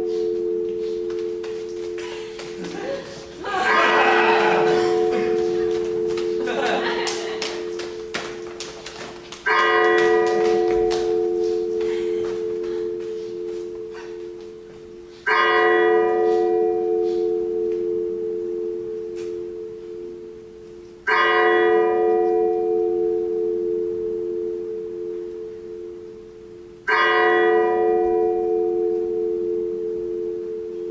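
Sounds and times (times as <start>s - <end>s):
deep bell tolling: 0.0s - 30.9s.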